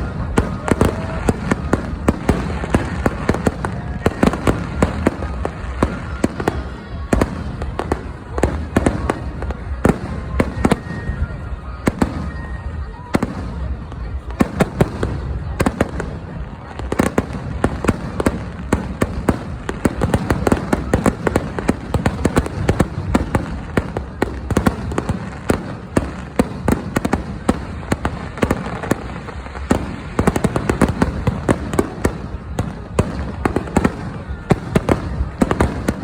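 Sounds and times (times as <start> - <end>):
firework bangs and crackles: 0.0 - 36.0.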